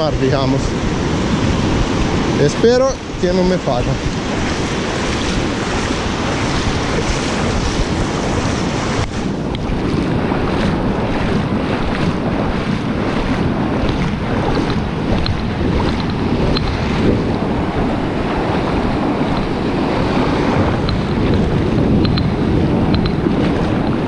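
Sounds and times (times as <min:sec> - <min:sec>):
sea surf washing: 0:00.0 - 0:24.0
wind buffeting microphone: 0:00.0 - 0:24.0.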